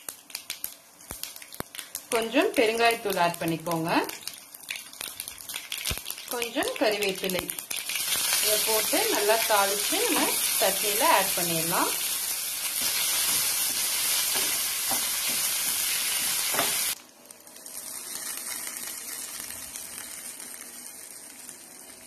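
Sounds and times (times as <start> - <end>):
spices sizzling in hot oil: 0.0 - 22.0.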